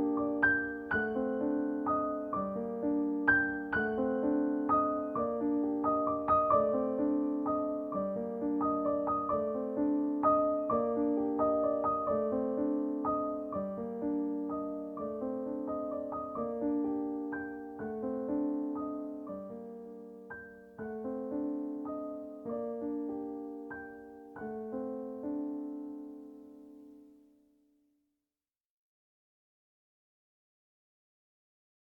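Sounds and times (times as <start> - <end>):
gentle piano piece: 0.0 - 27.4.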